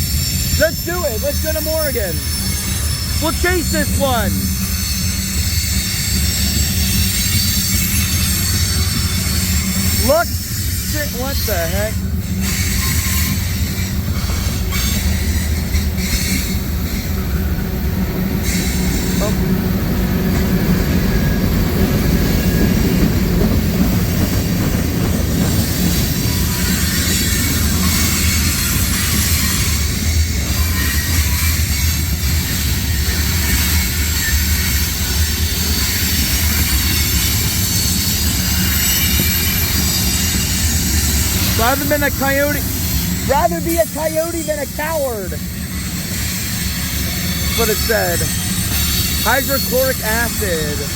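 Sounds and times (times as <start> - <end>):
freight train rolling past: 0.0 - 50.9.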